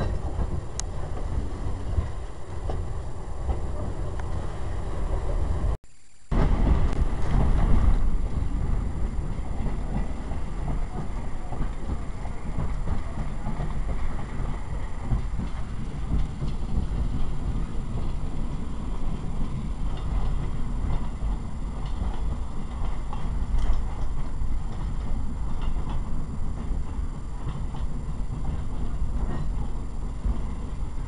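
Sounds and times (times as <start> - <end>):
train rumbling and rattling: 0.0 - 31.0.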